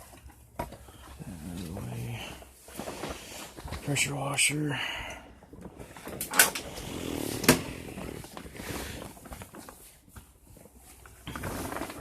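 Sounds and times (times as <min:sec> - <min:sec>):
things being shifted about: 0:00.0 - 0:12.0.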